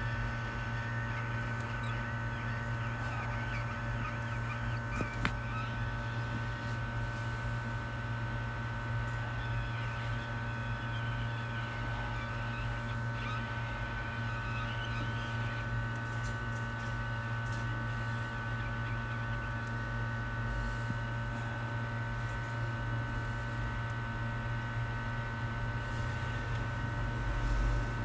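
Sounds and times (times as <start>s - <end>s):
electrical hum: 0.0s - 28.0s
whining tones: 0.0s - 28.0s.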